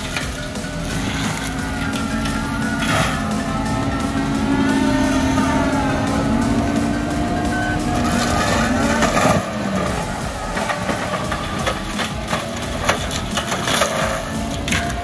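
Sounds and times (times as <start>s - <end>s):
crunching hits: 0.0s - 15.0s
diesel engine under load: 0.0s - 15.0s
mulcher grinding stumps and soil: 0.0s - 15.0s.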